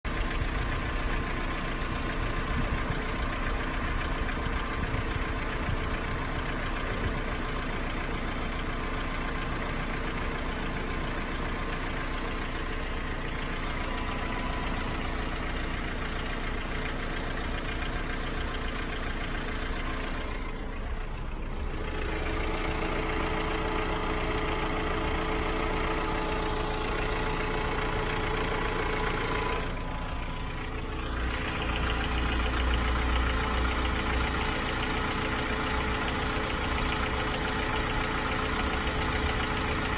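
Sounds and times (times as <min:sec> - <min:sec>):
engine idling with a knock: 0:00.1 - 0:39.9.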